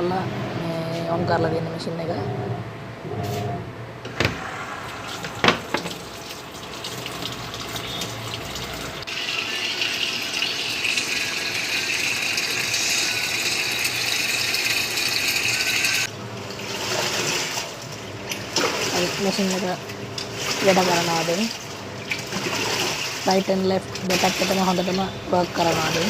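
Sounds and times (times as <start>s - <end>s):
water gushing into washing machine: 5.0s - 26.0s.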